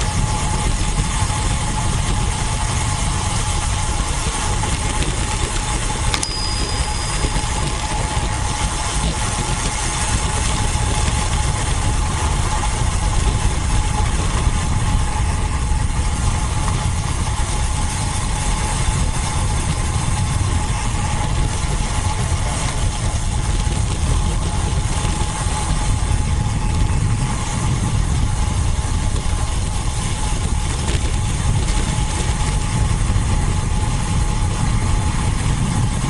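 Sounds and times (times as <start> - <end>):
faint steady hum: 0.0 - 36.0
wind rushing over microphone: 0.0 - 36.0.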